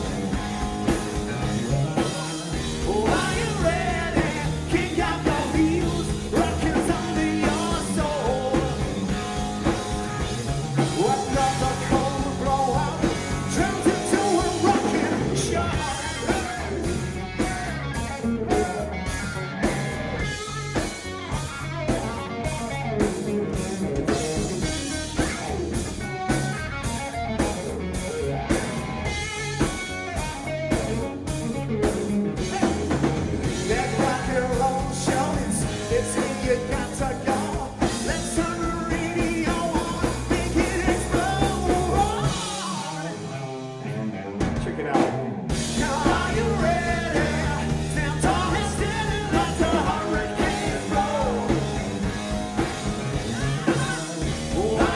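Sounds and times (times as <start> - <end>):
drum kit: 0.0 - 54.9
electric guitar: 0.0 - 54.9
live rock band playing: 0.0 - 54.9.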